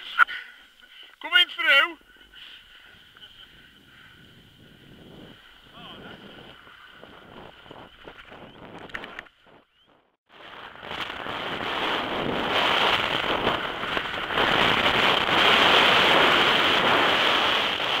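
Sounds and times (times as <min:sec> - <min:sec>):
snowboard scraping over snow: 0:02.7 - 0:09.5, 0:10.3 - 0:18.0
wind rushing over microphone: 0:03.2 - 0:18.0.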